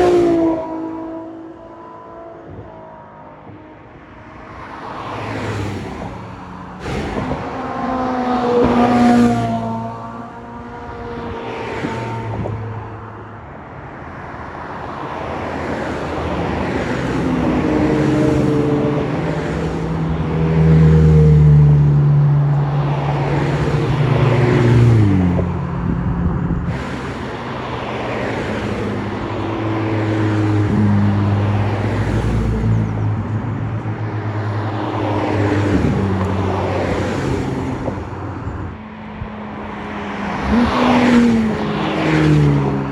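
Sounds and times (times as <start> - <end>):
sports car engines accelerating past: 4.7 - 13.1, 14.9 - 42.9.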